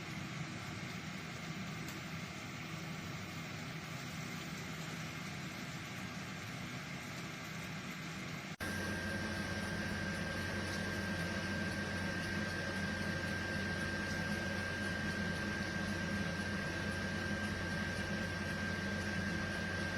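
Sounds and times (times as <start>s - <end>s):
air fryer fan and motor hum: 0.0s - 19.9s.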